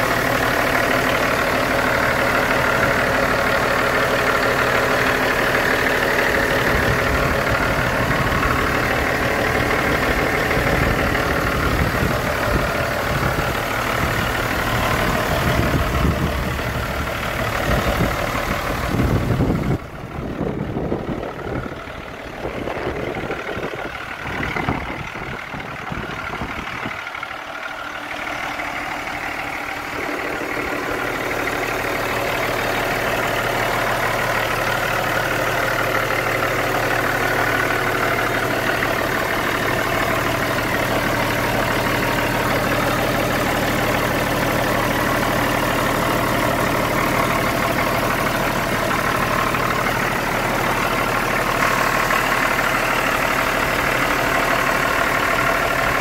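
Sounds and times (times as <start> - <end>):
diesel truck idling: 0.0 - 56.0.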